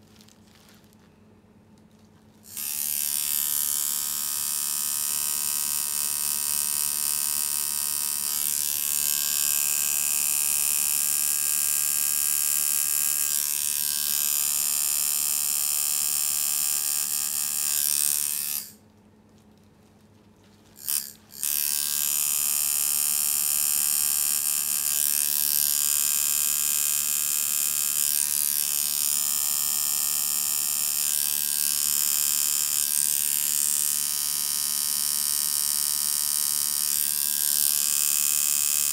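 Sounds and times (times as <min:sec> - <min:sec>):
tattoo machine buzzing: 0:02.4 - 0:18.8, 0:20.8 - 0:38.9.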